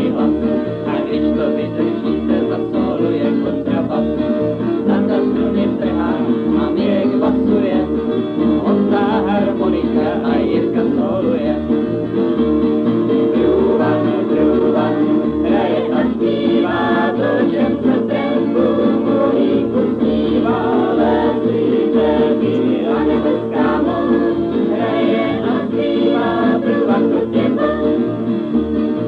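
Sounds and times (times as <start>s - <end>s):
voices singing: 0.0s - 28.5s
guitars strummed: 0.0s - 29.0s.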